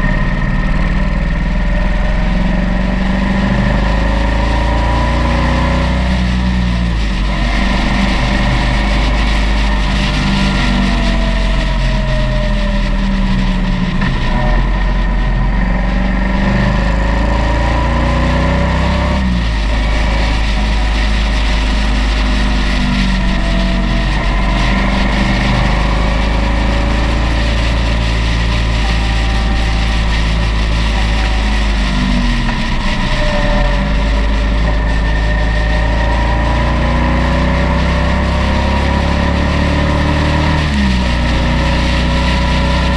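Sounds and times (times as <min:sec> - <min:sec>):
motorcycle engine running: 0:00.0 - 0:42.9
wind rushing: 0:03.1 - 0:42.9.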